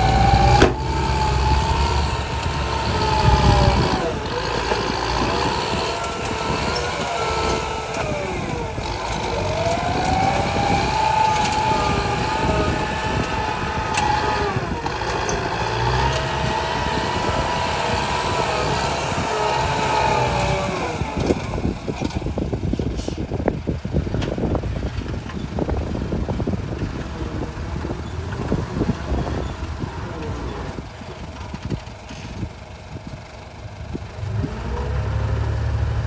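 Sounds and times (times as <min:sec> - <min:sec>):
truck engine running under load: 0:00.0 - 0:36.0.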